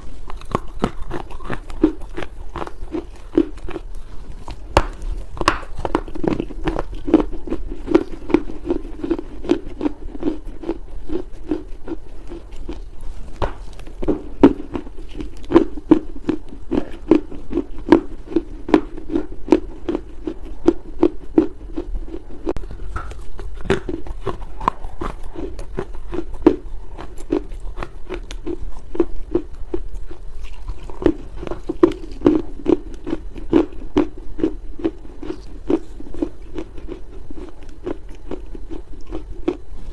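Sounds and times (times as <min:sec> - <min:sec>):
person chewing crunchy earth: 0:00.0 - 0:39.9.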